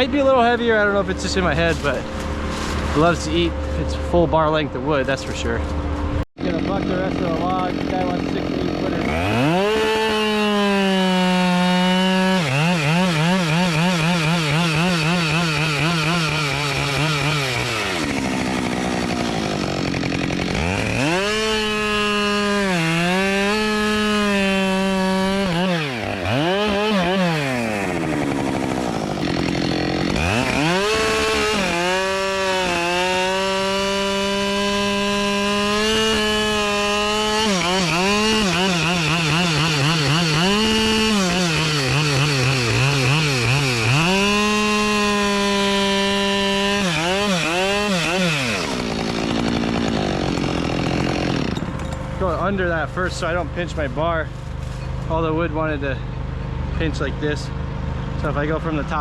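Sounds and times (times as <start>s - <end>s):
chainsaw cutting log: 0.8s - 3.9s, 6.4s - 59.0s.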